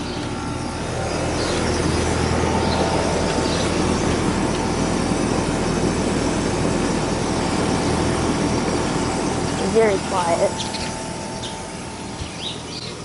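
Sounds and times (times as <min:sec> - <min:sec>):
compressor hum: 0:00.0 - 0:13.0
condenser fan rushing: 0:00.0 - 0:13.0.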